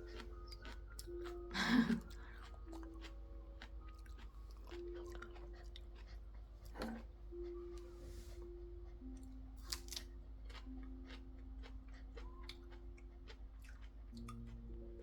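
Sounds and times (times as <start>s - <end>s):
soft music of held notes: 0.0s - 15.0s.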